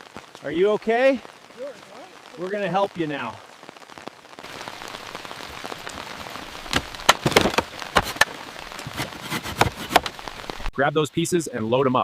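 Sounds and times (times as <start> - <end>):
heavy rain falling: 0.0 - 10.7.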